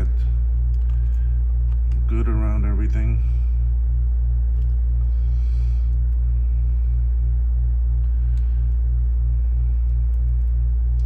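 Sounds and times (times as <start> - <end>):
air conditioner pulsing hum: 0.0 - 11.0.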